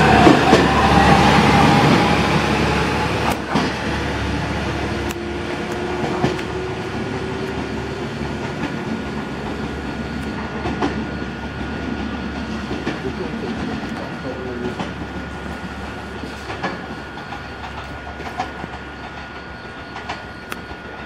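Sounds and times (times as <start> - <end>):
train wheels rumbling on rail: 0.0 - 21.0
wheels clicking over rail joints: 3.2 - 21.0.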